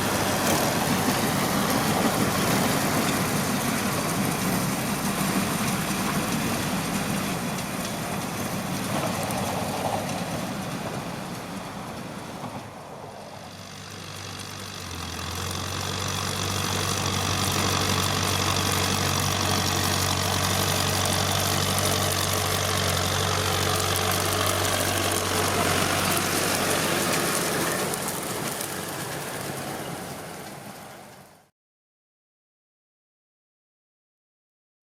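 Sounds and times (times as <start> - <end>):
tractor diesel engine running: 0.0 - 31.5.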